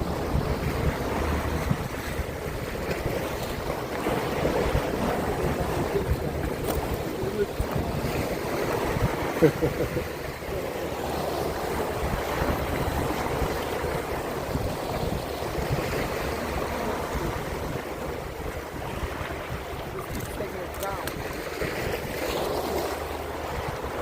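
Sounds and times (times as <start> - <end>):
water lapping against boat: 0.0 - 24.0
wind on microphone: 0.0 - 24.0.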